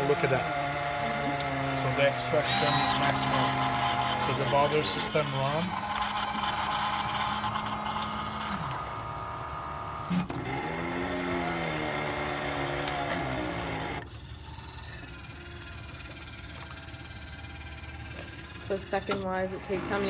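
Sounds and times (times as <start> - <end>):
coffee machine humming: 0.0 - 20.0
motor whirring: 0.0 - 20.0.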